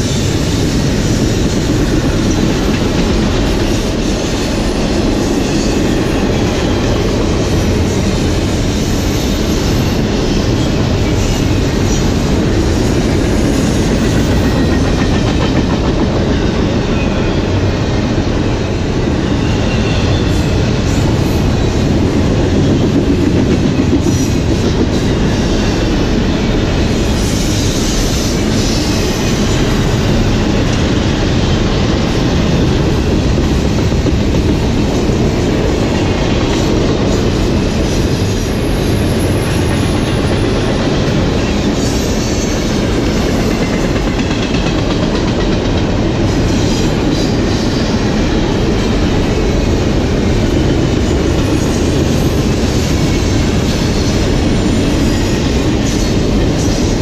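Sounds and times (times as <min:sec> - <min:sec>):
train wheels on rail: 0:00.0 - 0:57.0.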